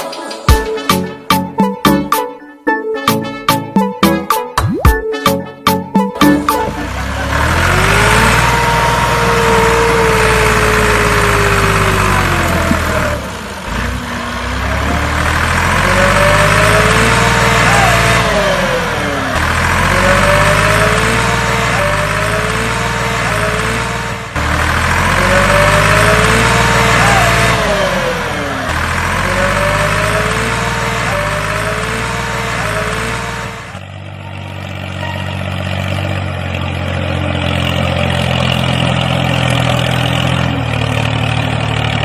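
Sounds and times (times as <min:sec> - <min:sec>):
vehicle engine whining: 0:05.2 - 0:42.0.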